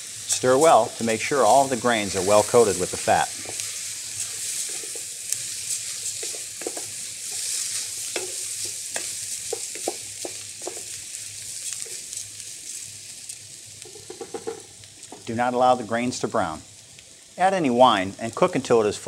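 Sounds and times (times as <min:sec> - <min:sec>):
rice sizzling in fat: 0:00.0 - 0:19.0.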